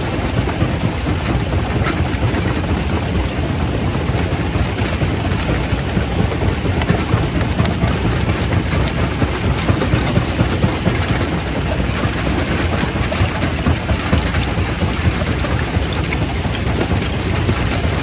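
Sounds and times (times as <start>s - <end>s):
rock crusher rumbling: 0.0s - 18.0s.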